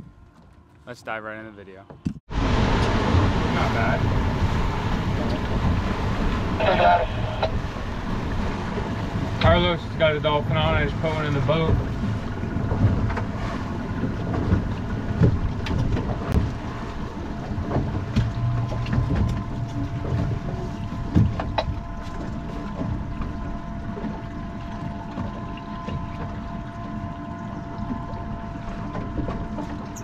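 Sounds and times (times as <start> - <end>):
wind buffeting microphone: 2.3 - 27.1
outboard motors idling: 2.3 - 30.0.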